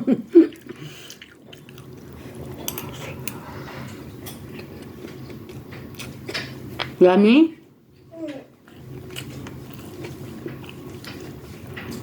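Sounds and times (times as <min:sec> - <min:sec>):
wet chewing and mouth sounds: 0:00.5 - 0:07.0, 0:08.6 - 0:12.0.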